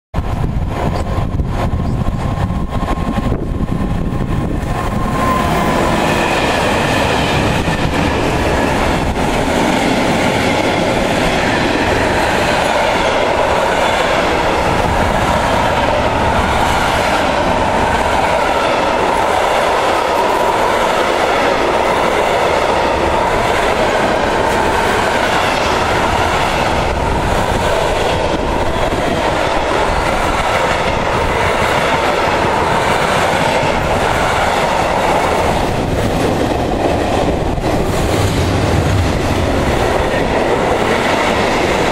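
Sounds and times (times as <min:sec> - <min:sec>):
freight train passing: 0:00.1 - 0:41.9
train wheels on rails: 0:00.1 - 0:41.9.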